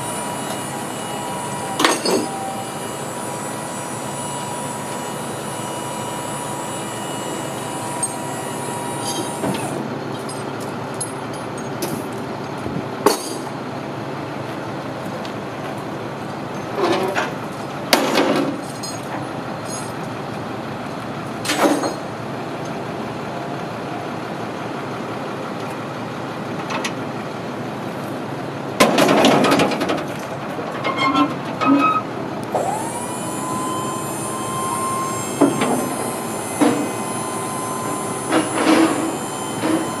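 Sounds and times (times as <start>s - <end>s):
hydraulic pump whine: 0.0s - 40.0s.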